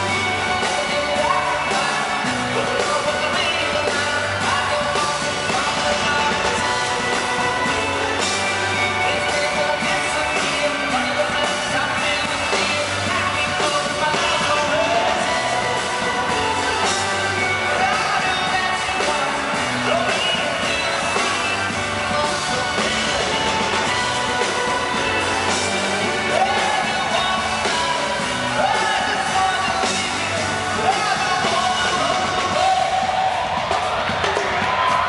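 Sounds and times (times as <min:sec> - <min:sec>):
live band with keyboards and drums: 0:00.0 - 0:35.0
man singing lead vocal: 0:00.0 - 0:35.0.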